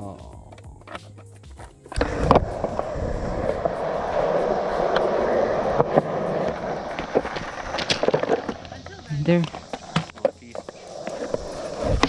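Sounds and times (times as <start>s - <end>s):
skateboard wheels rolling on concrete: 0.0s - 12.0s
skateboard clicks: 0.5s - 12.0s.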